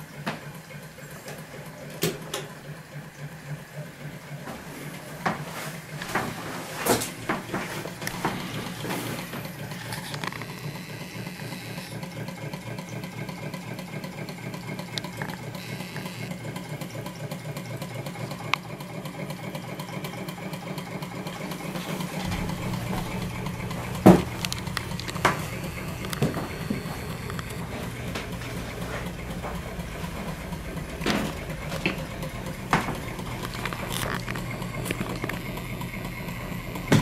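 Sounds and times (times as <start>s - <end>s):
model engine clattering: 0.0s - 37.0s.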